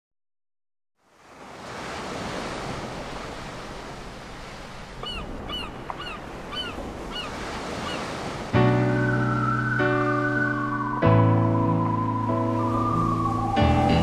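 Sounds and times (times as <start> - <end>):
sea surf washing: 1.1 - 14.0.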